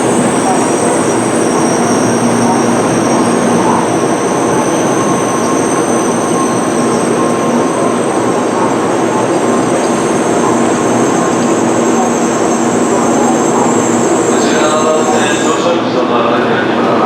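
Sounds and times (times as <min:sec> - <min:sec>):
high-pitched whining tones: 0:00.0 - 0:15.9
high-speed train rushing past: 0:00.0 - 0:17.0.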